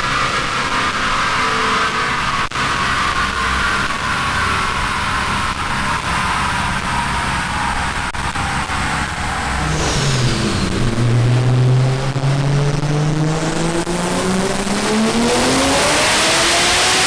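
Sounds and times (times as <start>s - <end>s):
turbo engine revving under load: 0.0s - 17.0s.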